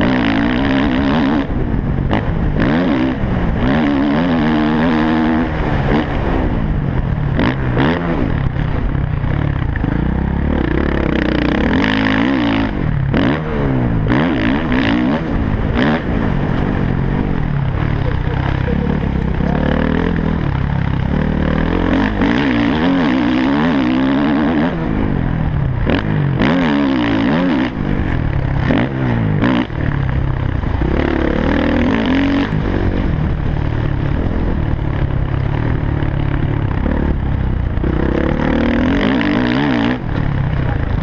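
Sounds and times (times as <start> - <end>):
motocross bike engine revving: 0.0 - 41.0.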